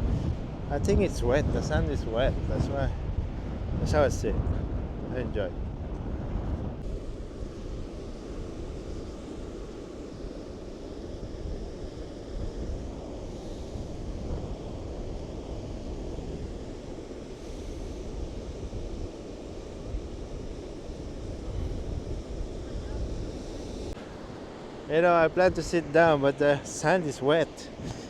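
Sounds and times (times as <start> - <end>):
strong wind rumbling on microphone: 0.0 - 28.0
surf washing on beach: 0.0 - 28.0.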